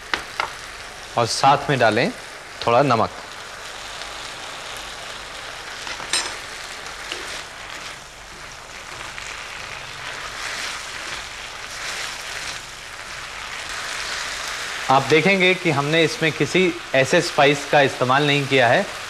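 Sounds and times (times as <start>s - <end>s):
meat sizzling in oil: 0.0s - 19.0s.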